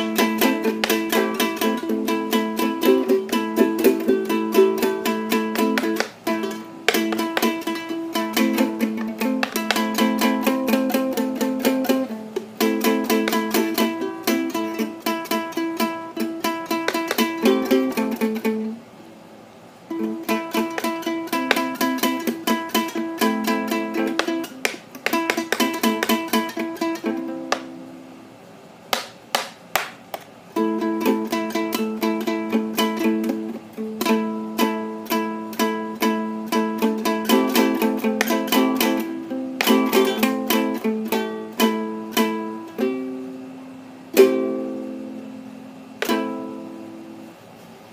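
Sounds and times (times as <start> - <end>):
ukulele strummed with a coin: 0.0 - 18.8, 19.9 - 28.0, 30.5 - 43.5, 44.1 - 45.4, 46.0 - 47.2.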